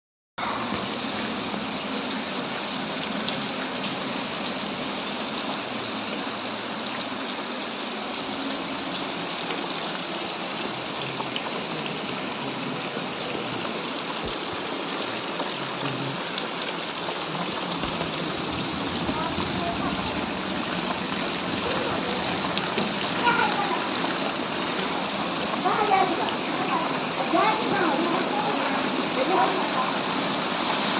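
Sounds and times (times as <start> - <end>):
heavy rain falling: 0.4 - 30.9.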